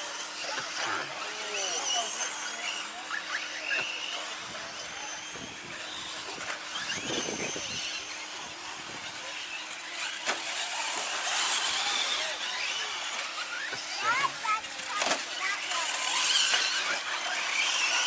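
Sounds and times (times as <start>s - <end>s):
rc trucks electric motors whining: 0.0s - 18.0s.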